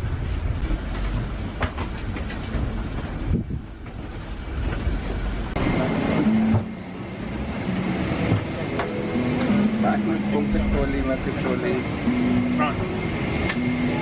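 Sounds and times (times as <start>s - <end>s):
aircraft cabin hum: 0.0s - 14.0s
passengers walking on jet bridge: 0.0s - 14.0s.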